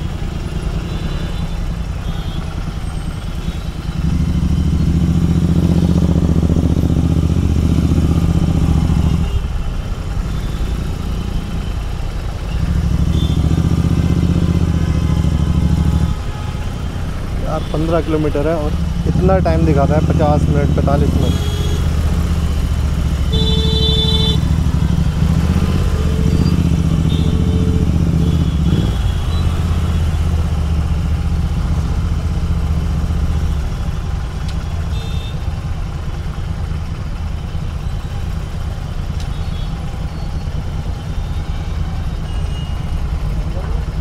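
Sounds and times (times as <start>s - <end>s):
motorcycle engine idling: 0.0s - 44.0s
vehicles idling in traffic: 0.0s - 44.0s.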